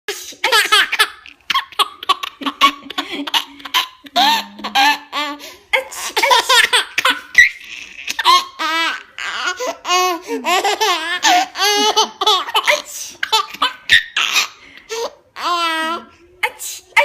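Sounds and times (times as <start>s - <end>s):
baby giggling: 0.4s - 16.0s.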